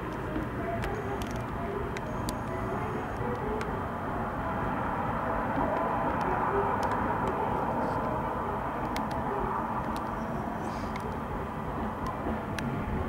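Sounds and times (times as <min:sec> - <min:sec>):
faint held hum: 0:00.0 - 0:13.0
outdoor background rumble: 0:00.0 - 0:13.0.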